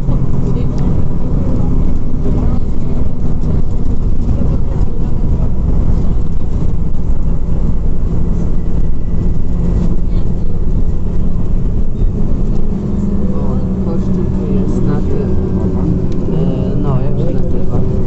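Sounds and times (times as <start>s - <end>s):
bus engine drone: 0.0s - 18.0s
road and tyre rumble: 0.0s - 18.0s.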